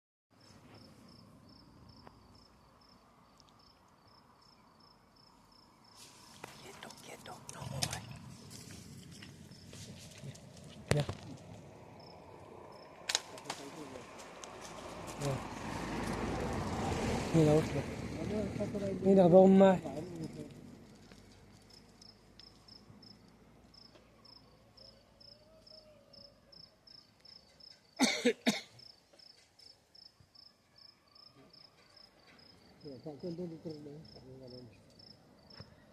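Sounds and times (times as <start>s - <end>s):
faint cricket chirping: 0.4s - 35.9s.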